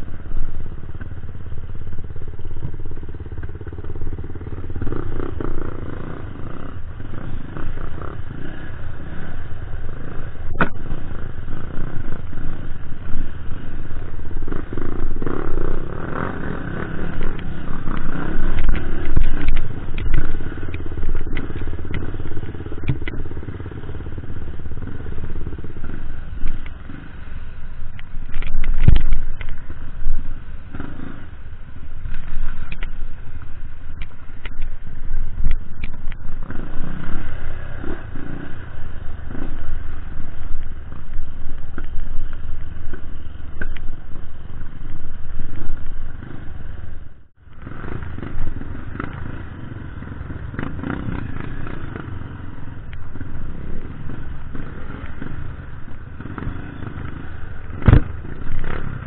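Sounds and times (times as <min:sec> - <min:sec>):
bikes clacking over rough ground: 0:00.0 - 0:59.0
dirt bike engines revving: 0:00.0 - 0:59.0.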